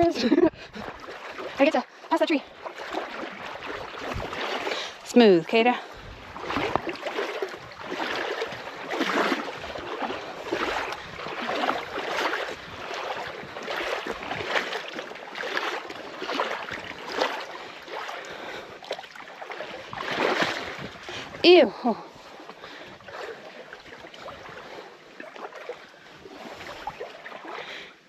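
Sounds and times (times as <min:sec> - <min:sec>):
wading through river water: 0:00.0 - 0:28.0.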